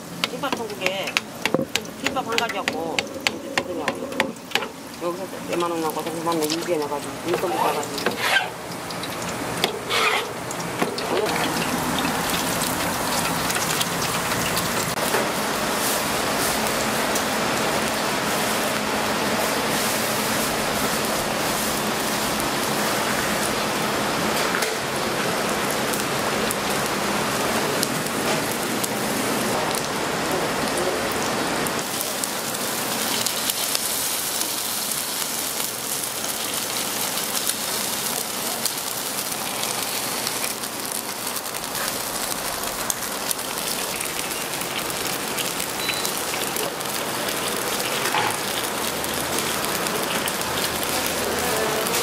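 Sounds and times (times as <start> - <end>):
hot oil sizzling in fryer: 0.0 - 52.0.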